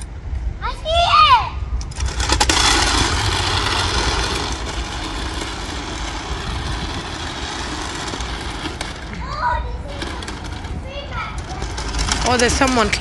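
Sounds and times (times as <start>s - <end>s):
road noise from traffic: 0.0s - 13.0s
vehicle engine rumble: 0.0s - 13.0s.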